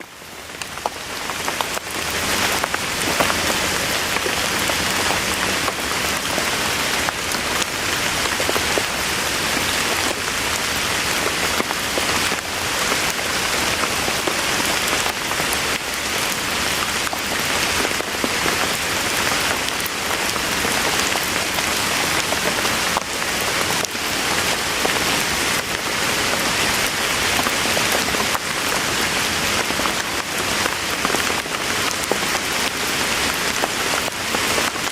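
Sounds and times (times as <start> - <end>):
raindrops clicking on surface: 0.0 - 34.9
steady rain: 0.0 - 34.9.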